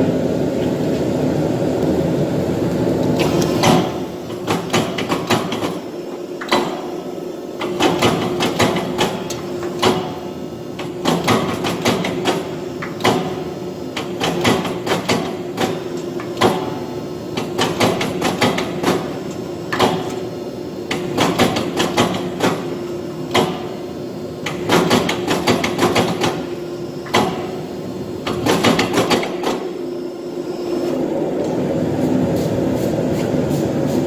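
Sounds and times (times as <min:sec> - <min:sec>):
loud rumbling machine noise: 0:00.0 - 0:34.0
steady machine hum: 0:00.0 - 0:34.0.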